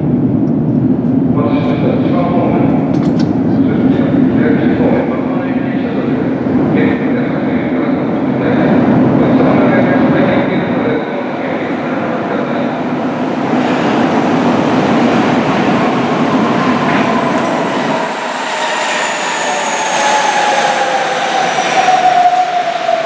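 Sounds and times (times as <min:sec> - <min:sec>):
metro train rolling rumble: 0:00.0 - 0:23.0.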